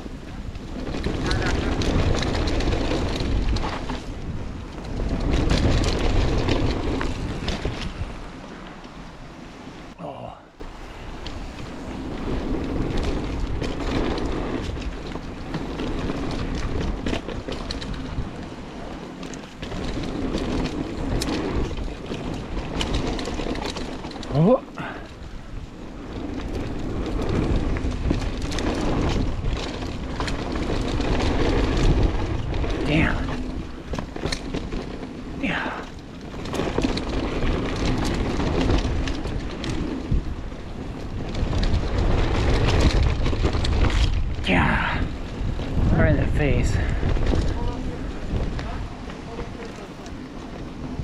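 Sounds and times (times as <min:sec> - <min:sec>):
tyres rumbling on dirt: 0:00.0 - 0:08.5, 0:09.9 - 0:51.0
bike rattling over bumps: 0:00.0 - 0:51.0
wind buffeting microphone: 0:00.0 - 0:51.0.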